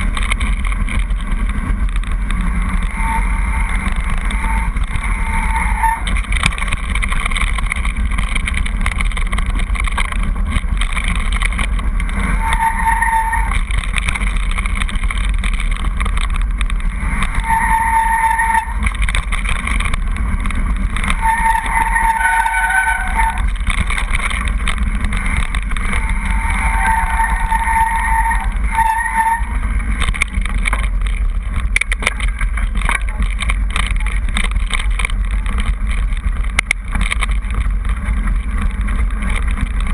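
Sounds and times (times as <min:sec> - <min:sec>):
bike tyres crunching on gravel: 0:00.0 - 0:39.9.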